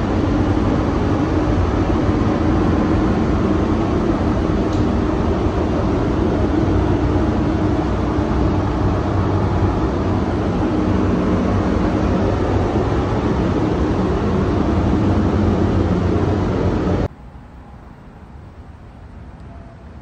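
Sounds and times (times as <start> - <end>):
ventilation fans rushing: 0.0 - 20.0.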